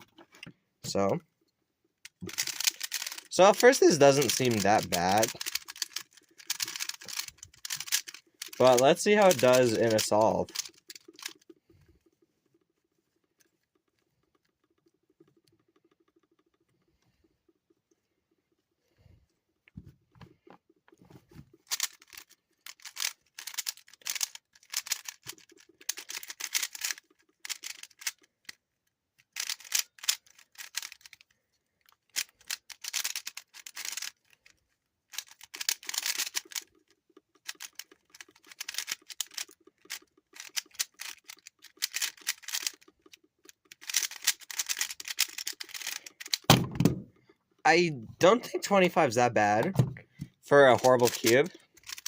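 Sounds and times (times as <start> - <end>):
puzzle cube clicking and scraping: 2.1 - 17.1, 20.3 - 52.0.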